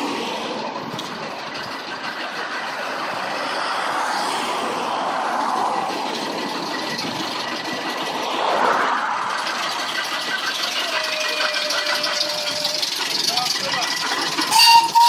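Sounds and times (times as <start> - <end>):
passing road traffic: 0.0 - 15.0
steam tractor engine clatter: 0.0 - 15.0.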